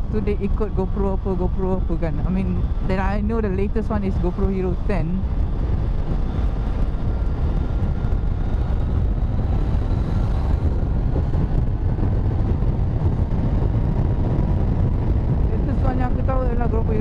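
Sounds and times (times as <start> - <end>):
wind rush on microphone: 0.0 - 17.0.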